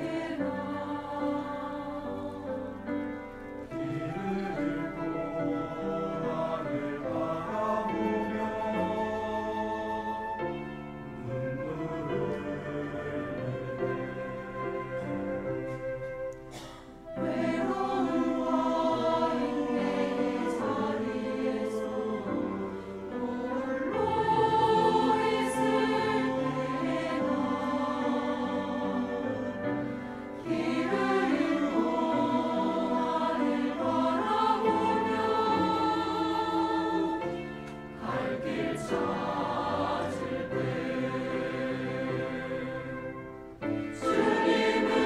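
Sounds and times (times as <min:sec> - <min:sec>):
mixed choir singing: 0:00.0 - 0:15.8, 0:16.5 - 0:45.0.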